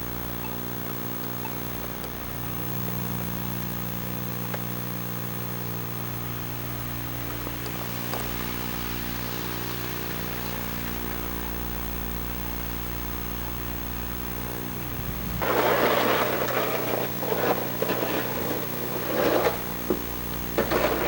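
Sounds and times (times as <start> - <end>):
electrical buzz hum: 0.0 - 21.0.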